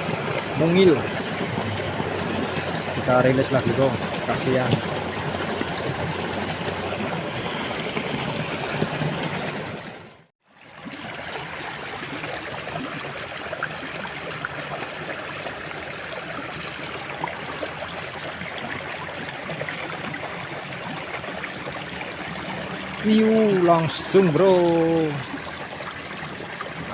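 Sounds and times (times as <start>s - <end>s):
water running in a ditch: 0.0s - 26.9s.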